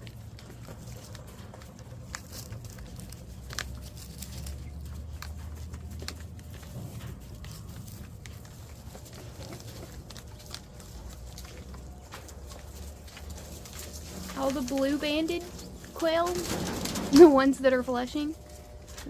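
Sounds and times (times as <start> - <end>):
quail pecking at feed: 0.0 - 17.5.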